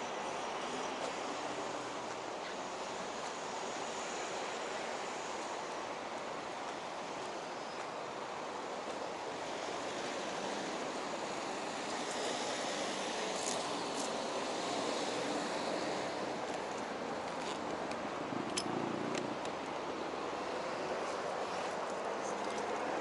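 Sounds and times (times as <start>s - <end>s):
road traffic hiss: 0.0s - 23.0s.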